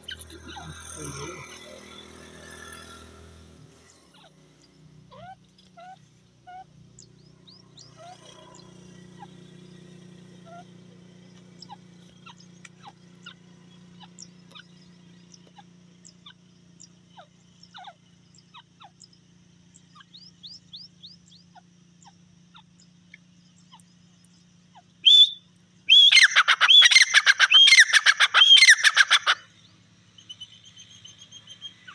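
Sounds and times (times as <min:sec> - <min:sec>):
faint small bird chirps: 0:03.8 - 0:31.9
francolin calling loudly: 0:04.1 - 0:09.4, 0:10.4 - 0:10.7, 0:11.6 - 0:31.9.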